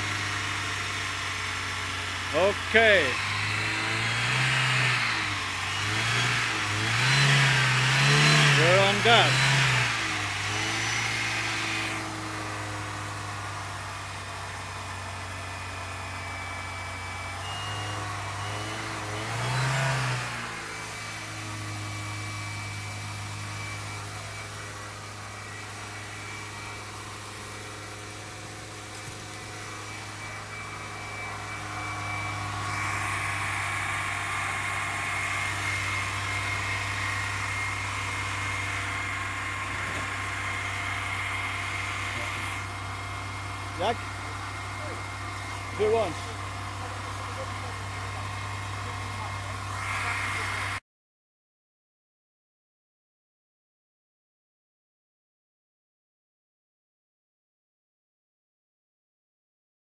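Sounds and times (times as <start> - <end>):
car engine running: 0.0 - 50.8.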